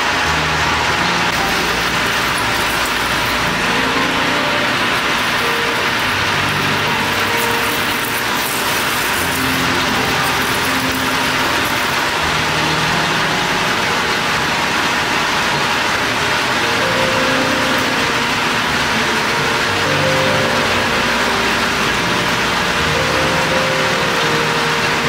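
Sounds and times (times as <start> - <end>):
low shifting tones: 0.0 - 25.0
metal lathe running: 0.0 - 25.0.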